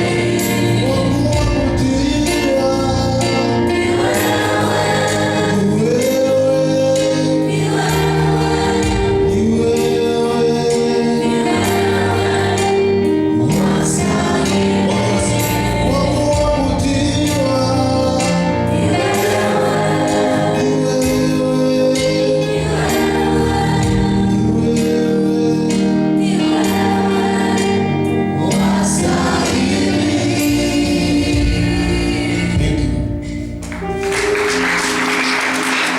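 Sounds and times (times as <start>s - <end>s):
choir singing gospel: 0.0s - 35.9s
low instrumental accompaniment: 0.0s - 35.9s.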